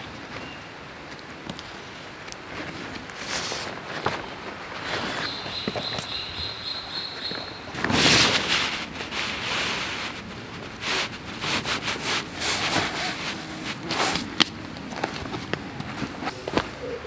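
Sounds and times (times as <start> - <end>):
dry leaves rustling and crunching: 2.4 - 17.0.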